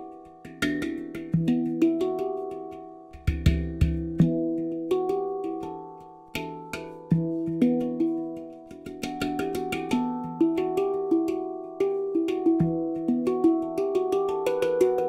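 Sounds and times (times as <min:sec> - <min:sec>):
handpan melody: 0:00.0 - 0:15.0.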